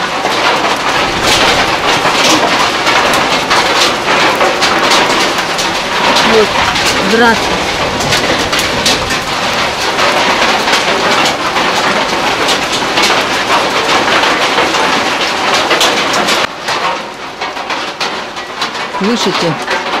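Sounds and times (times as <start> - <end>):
hail falling: 0.0 - 20.0
hailstones striking ground and foliage: 0.0 - 20.0.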